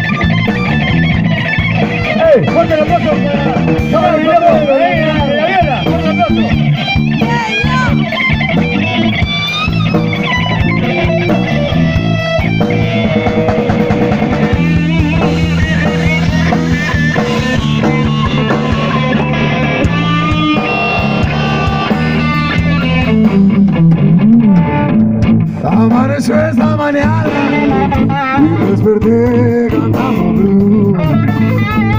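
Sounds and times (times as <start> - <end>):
bass: 0.0 - 31.9
drums: 0.0 - 31.9
electric guitar solo: 0.0 - 31.9.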